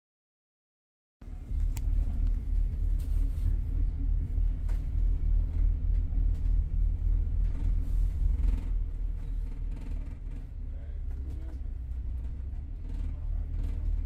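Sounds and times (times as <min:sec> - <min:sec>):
bus engine and road rumble: 0:01.2 - 0:14.0.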